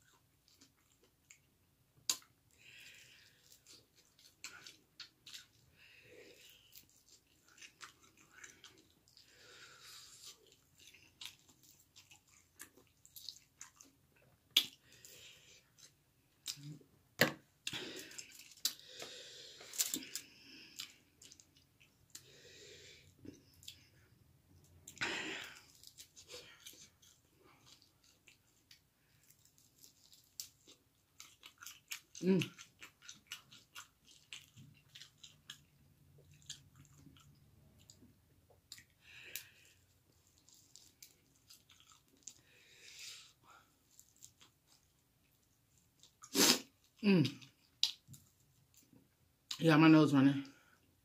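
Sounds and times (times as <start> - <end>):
wet chewing and mouth clicks: 0.0 - 16.8, 17.6 - 22.3, 23.0 - 49.6.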